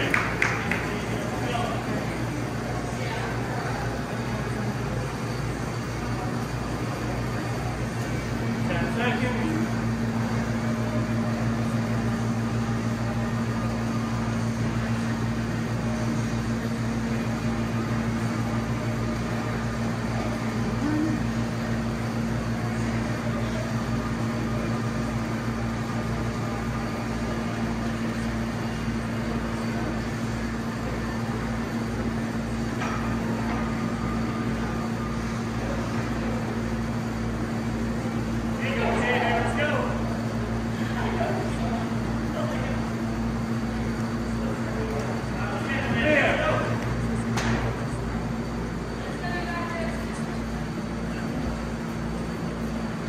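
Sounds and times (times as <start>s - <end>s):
machine hum with held tones: 0.0s - 53.0s.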